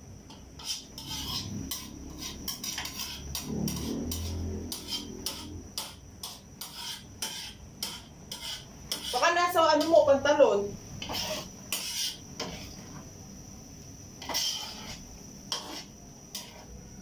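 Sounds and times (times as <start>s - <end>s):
metal spatula scraping wok: 0.3s - 10.2s, 11.0s - 13.0s, 14.2s - 17.0s.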